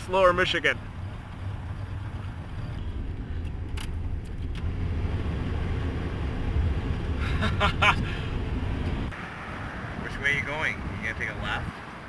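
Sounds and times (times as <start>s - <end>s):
car engine rumble in cabin: 0.1s - 11.7s.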